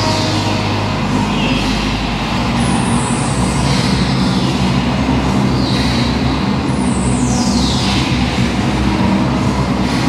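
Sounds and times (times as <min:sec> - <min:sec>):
harsh electronic noise music: 0:00.0 - 0:10.0
thrumming low drone: 0:00.0 - 0:10.0.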